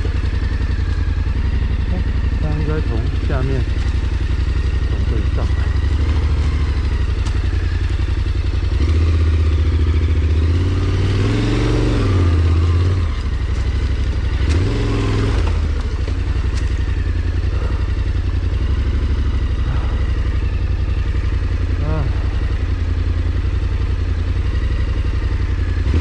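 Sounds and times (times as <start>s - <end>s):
small vehicle engine under load: 0.0s - 26.0s.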